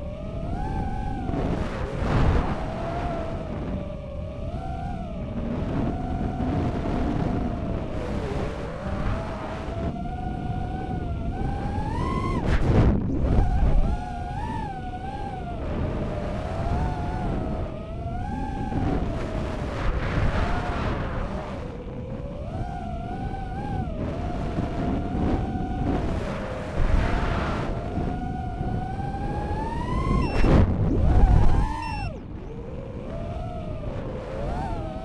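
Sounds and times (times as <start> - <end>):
drone motors whining: 0.0 - 35.0
wind buffeting microphone: 0.0 - 35.0.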